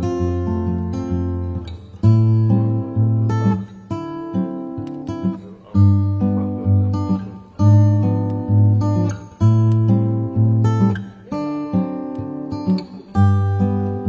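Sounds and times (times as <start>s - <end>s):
guitar strumming chords: 0.0s - 14.0s.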